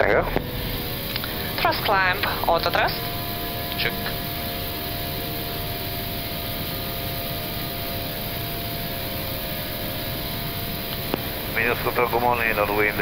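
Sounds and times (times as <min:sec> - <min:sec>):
airflow and jet engine noise: 0:00.0 - 0:13.0
faint steady tones: 0:00.0 - 0:13.0.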